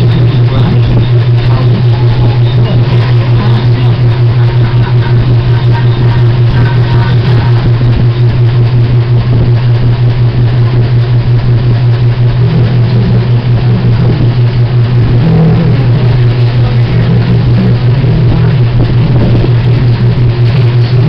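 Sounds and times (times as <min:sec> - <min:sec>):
machine humming with pulses: 0:00.0 - 0:21.0.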